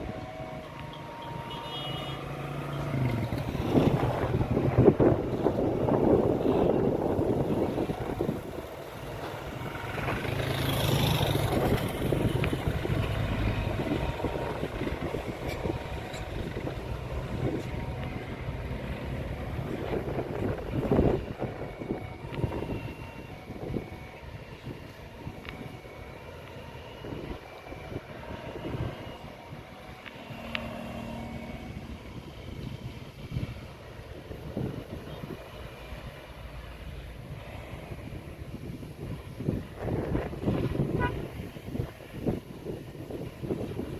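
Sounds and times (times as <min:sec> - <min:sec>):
distant engine noise: 0:00.0 - 0:43.9
low engine hum: 0:00.0 - 0:43.9
vehicle passing by: 0:00.0 - 0:43.9
wind buffeting microphone: 0:02.8 - 0:43.9.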